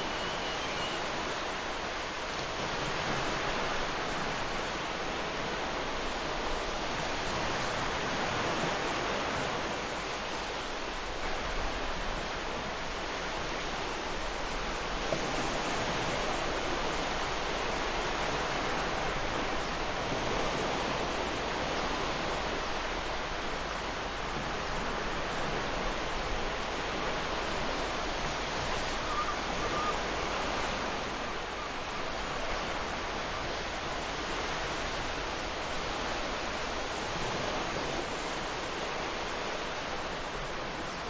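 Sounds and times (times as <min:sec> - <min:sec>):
ocean waves breaking: 0:00.0 - 0:41.0.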